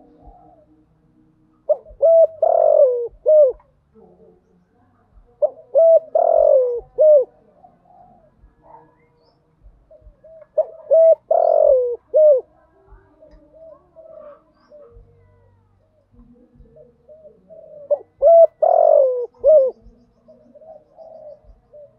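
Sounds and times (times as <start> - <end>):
dove cooing: 0.0 - 0.8, 1.6 - 4.4, 5.4 - 9.0, 9.8 - 21.9.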